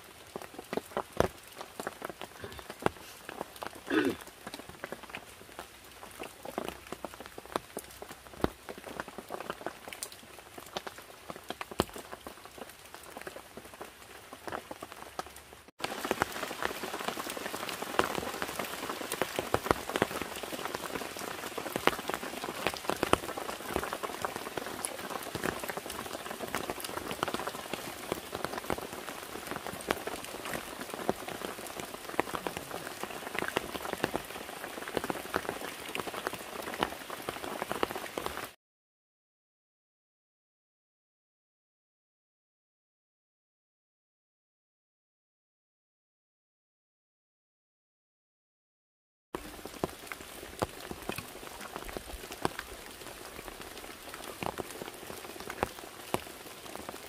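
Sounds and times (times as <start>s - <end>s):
rain falling: 0.0s - 38.6s, 49.4s - 57.0s.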